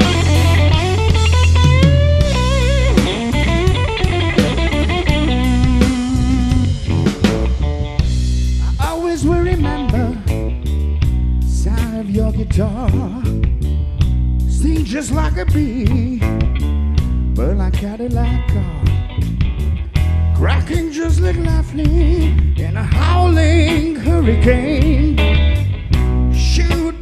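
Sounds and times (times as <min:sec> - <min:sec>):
drum kit: 0:00.0 - 0:27.0
electric bass: 0:00.0 - 0:27.0
electric guitar lead: 0:00.0 - 0:27.0.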